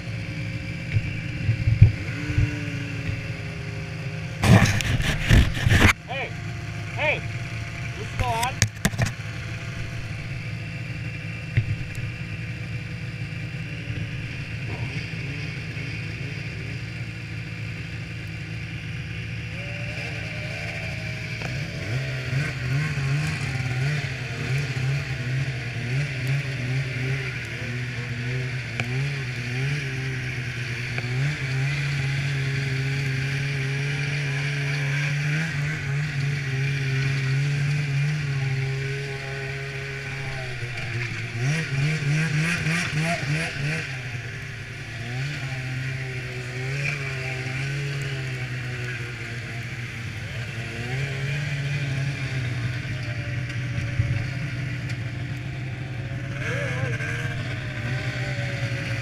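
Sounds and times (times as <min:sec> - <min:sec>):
snowmobile engine: 0:00.0 - 0:59.0.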